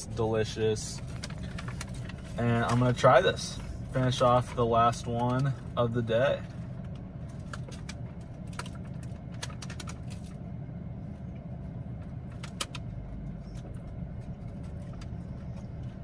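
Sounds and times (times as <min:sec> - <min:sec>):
car cabin hum: 0:00.0 - 0:16.0.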